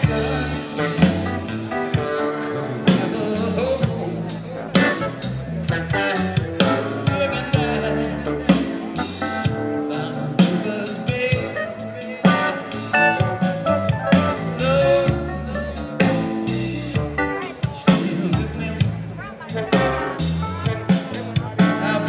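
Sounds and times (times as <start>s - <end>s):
live band playing: 0.0s - 22.0s.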